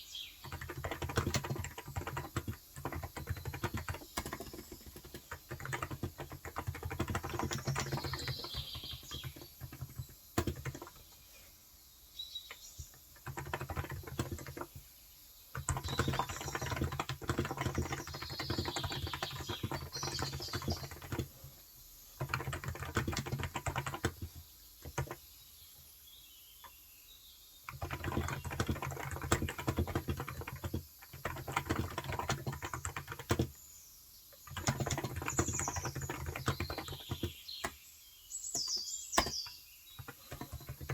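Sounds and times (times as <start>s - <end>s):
faint birds chirping: 0.0s - 40.9s
keyboard typing: 0.4s - 11.2s, 12.5s - 14.9s, 15.5s - 21.6s, 22.2s - 25.3s, 27.7s - 33.6s, 34.4s - 37.8s, 38.5s - 40.9s.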